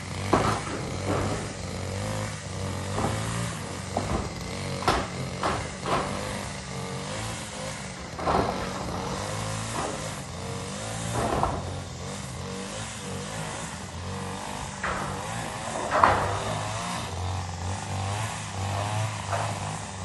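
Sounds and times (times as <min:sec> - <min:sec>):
engine running: 0:00.0 - 0:20.0
sharp knocks: 0:00.1 - 0:07.3, 0:07.9 - 0:12.6, 0:13.4 - 0:19.9.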